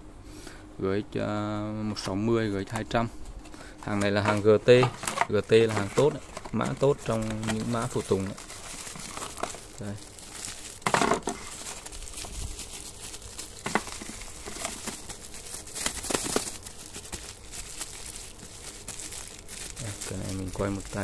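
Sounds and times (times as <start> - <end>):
plastic bags crinkling: 3.4 - 21.0.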